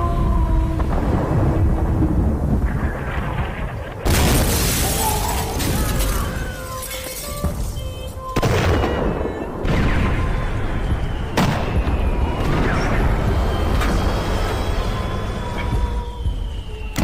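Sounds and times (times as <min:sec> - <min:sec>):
rumbling wash: 0:00.0 - 0:17.0.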